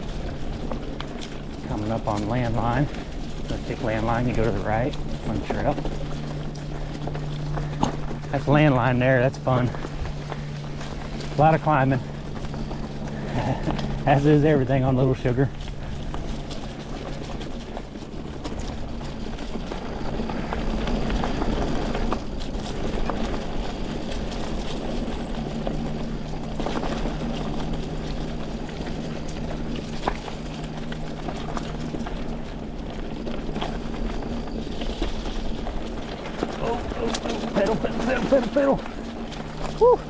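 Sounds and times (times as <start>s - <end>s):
bike clicks and knocks: 0.0s - 40.0s
bike tyres rolling on dirt: 0.0s - 40.0s
steady low hum: 0.0s - 40.0s.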